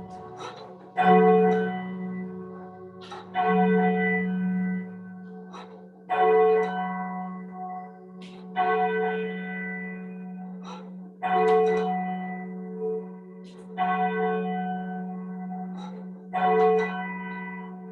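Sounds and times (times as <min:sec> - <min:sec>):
church bell tolling: 0:00.0 - 0:17.9.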